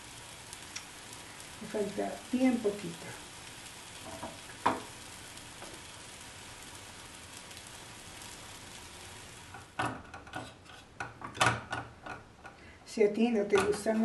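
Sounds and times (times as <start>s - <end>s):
food sizzling in pans: 0.0s - 14.0s.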